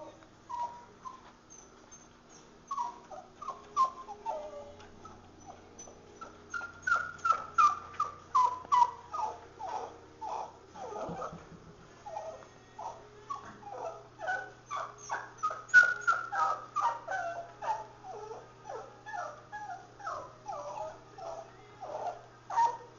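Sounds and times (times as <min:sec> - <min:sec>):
dog whimpering: 0:00.0 - 0:22.9.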